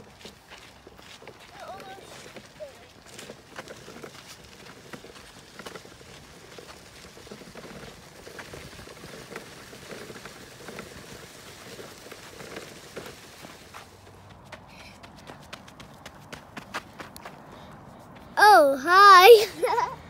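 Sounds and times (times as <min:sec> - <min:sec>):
footsteps crunching on dirt trail: 0:00.0 - 0:18.4.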